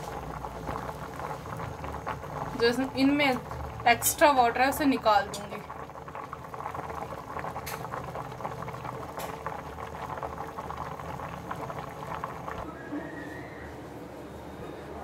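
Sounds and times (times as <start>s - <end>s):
water boiling in a pot: 0.0s - 12.7s.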